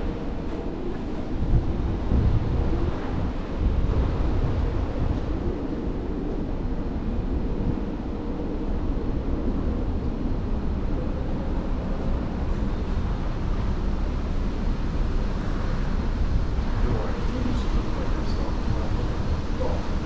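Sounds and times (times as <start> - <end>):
wind rushing on ship deck: 0.0 - 20.0.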